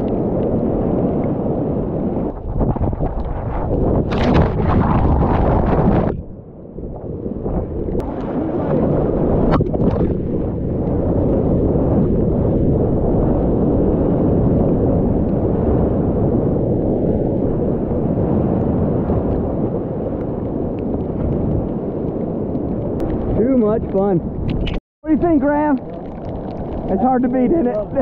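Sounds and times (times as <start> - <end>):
surf breaking and churning: 0.0 - 28.0.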